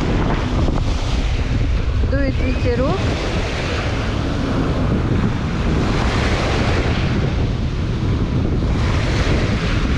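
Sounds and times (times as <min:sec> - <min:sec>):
sea surf washing onto beach: 0:00.0 - 0:09.9
wind buffeting microphone: 0:00.0 - 0:09.9.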